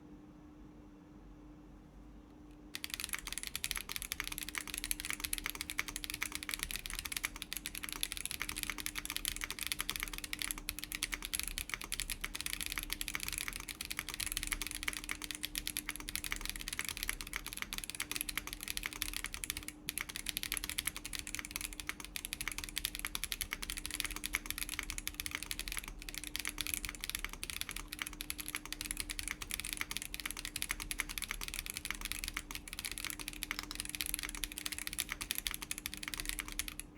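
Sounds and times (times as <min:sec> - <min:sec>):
mechanical keyboard typing: 0:02.7 - 0:36.9.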